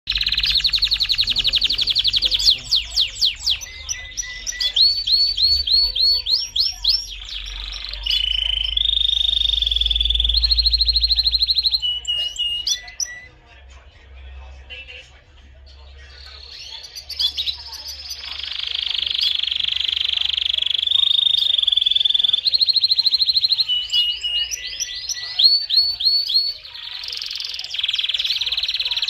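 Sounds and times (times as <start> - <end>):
canary singing: 0.1 - 13.6, 14.2 - 29.0.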